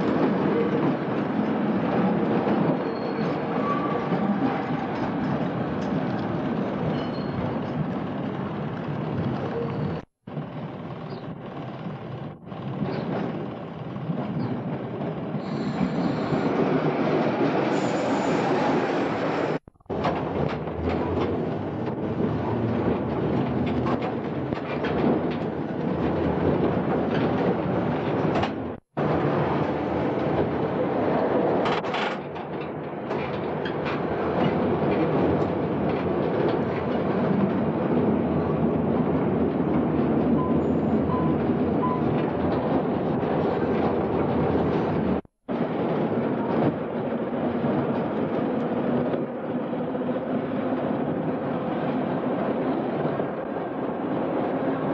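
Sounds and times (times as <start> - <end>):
tram wheels rumbling on rails: 0.0 - 54.9.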